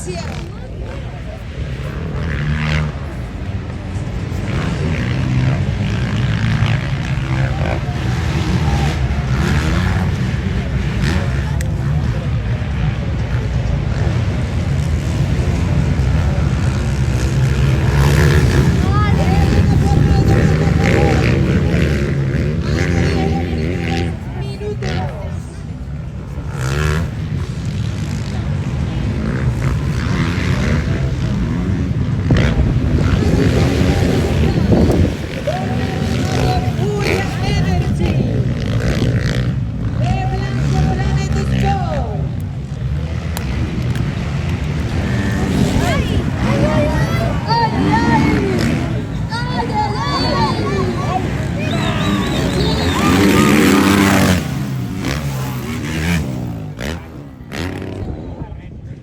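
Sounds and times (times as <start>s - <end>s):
motocross bike engine running: 0.0s - 58.1s.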